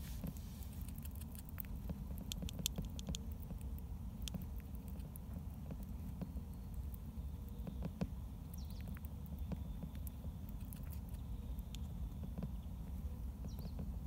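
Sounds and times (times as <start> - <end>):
animal chewing: 0.0 - 14.0.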